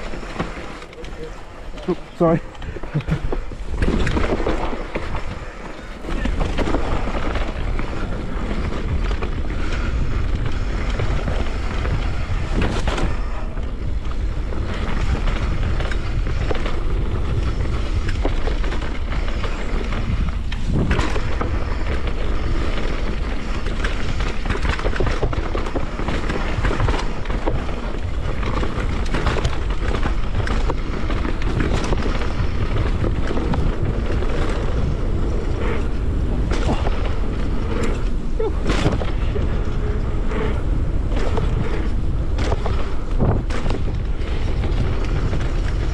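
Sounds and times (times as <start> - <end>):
bike knocks and rattles: 0.0 - 1.8, 2.6 - 45.9
bike tyre roar: 0.0 - 45.9
wind buffeting microphone: 0.0 - 45.9.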